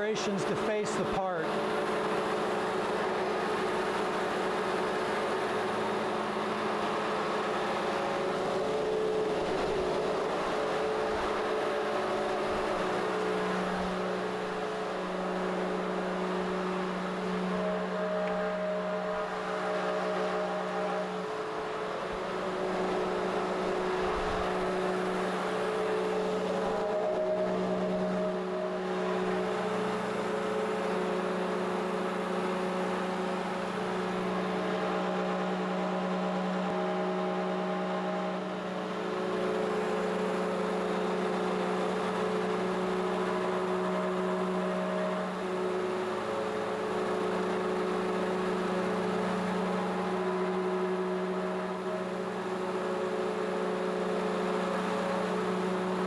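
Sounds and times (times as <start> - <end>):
steady machine hum: 0.0 - 56.0
whining tones shifting in pitch: 0.0 - 56.0.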